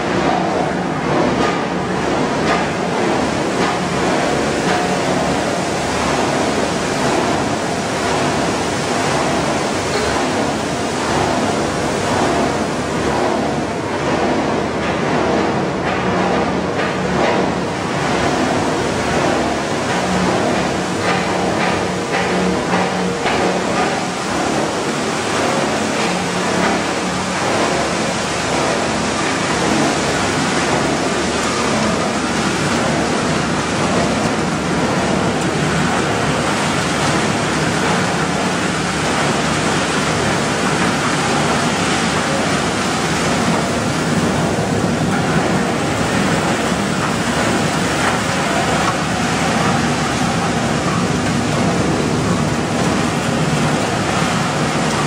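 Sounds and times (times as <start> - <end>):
recycling machinery running: 0.0 - 55.0.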